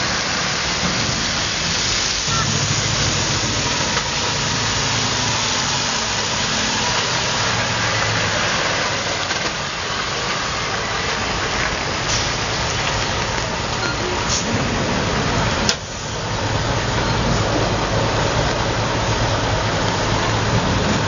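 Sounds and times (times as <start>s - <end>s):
truck diesel engine: 0.0s - 21.0s
tyres hissing on wet road: 0.0s - 21.0s.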